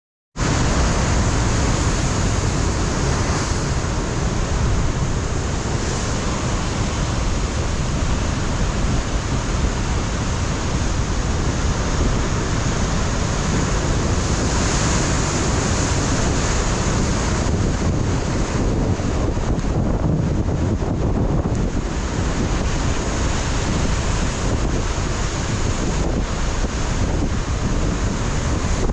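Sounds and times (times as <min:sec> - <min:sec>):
surf breaking on rocks: 0:00.4 - 0:28.9
wind buffeting microphone: 0:00.4 - 0:28.9.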